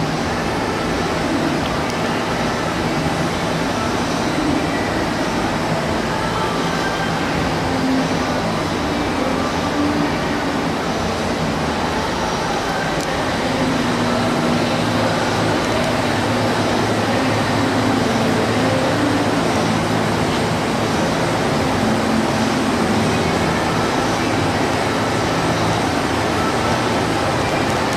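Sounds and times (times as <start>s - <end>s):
machinery humming and rumbling: 0.0s - 27.9s.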